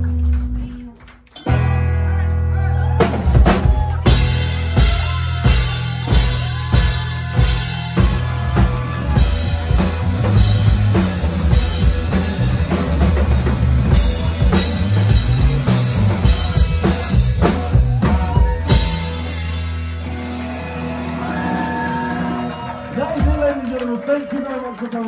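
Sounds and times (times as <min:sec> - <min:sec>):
drum kit: 0:00.0 - 0:23.7
live rock band: 0:00.0 - 0:24.9.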